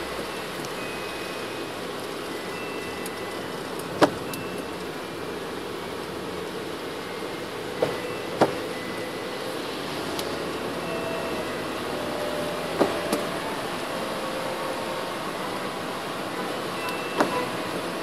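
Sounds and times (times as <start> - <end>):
tyres hissing on wet road: 0.0 - 18.0.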